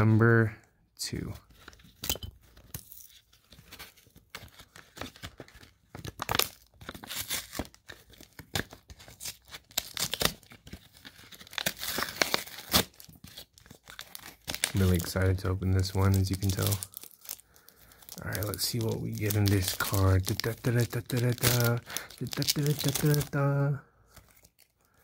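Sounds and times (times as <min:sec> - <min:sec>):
foil wrapper crinkling and tearing: 0:01.6 - 0:25.0.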